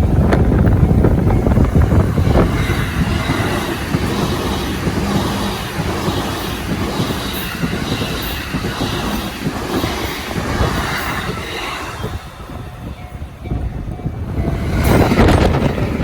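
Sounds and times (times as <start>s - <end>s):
electric train passing: 0.0s - 16.0s
train wheels rattling over rails: 0.0s - 16.0s.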